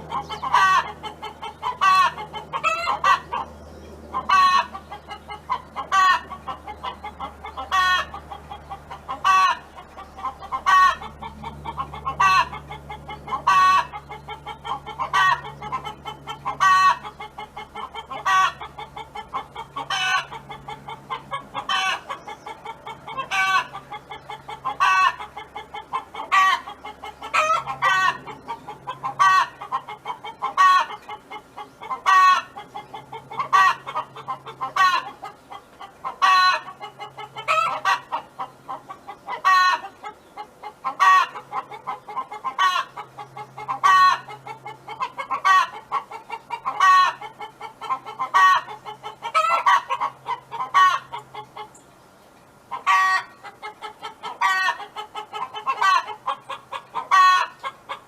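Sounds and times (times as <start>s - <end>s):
hen clucking: 0.0s - 51.8s, 52.6s - 58.0s.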